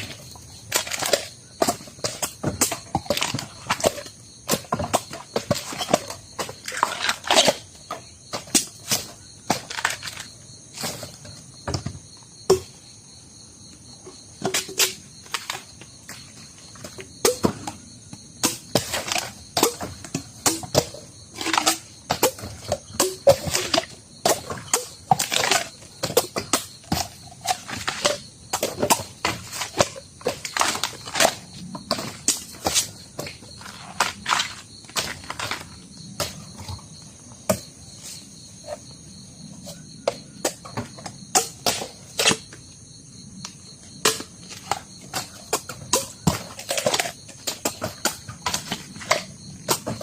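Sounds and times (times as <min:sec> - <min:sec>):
high insect drone: 0:00.0 - 0:50.0.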